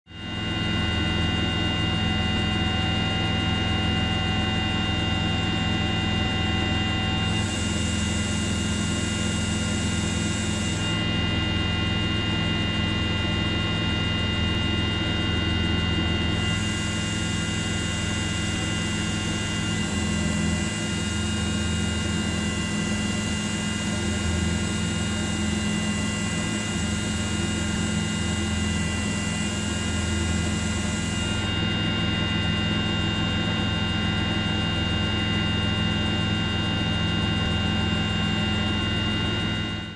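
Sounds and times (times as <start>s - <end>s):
helicopter engine and rotor: 0.1s - 39.9s.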